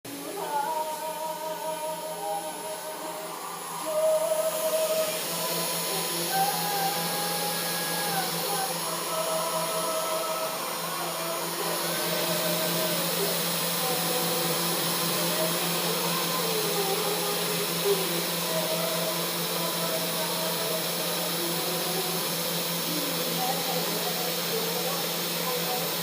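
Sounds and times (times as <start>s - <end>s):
cnc router spindle whine: 0.1s - 26.0s.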